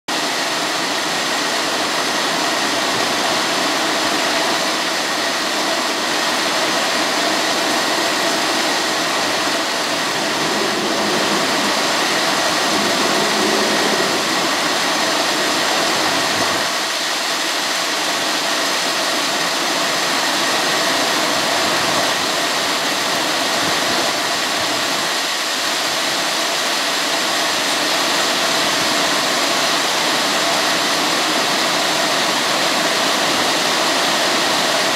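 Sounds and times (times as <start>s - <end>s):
heavy rain on standing water: 0.1s - 34.9s.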